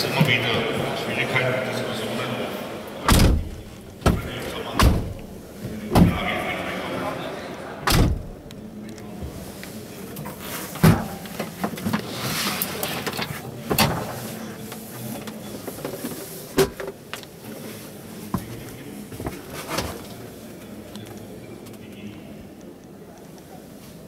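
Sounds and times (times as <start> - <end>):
exhibition hall background noise: 0.0 - 24.0.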